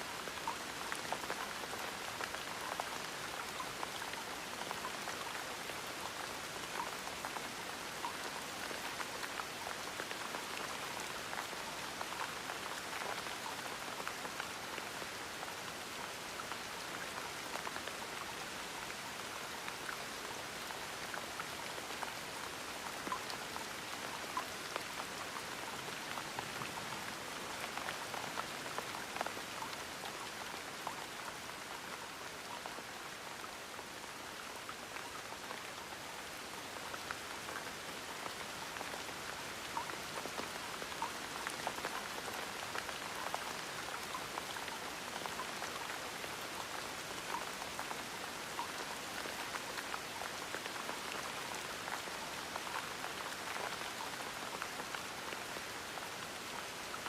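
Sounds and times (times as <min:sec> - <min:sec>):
gentle rain patter: 0:00.0 - 0:57.0.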